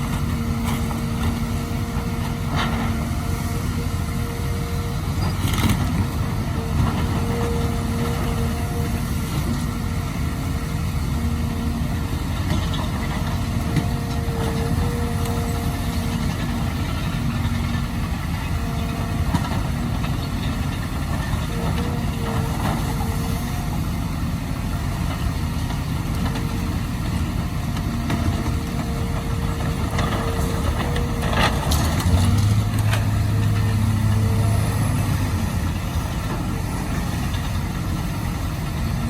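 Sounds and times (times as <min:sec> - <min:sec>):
excavator diesel engine running: 0:00.0 - 0:39.0
hydraulic whine: 0:00.0 - 0:39.0.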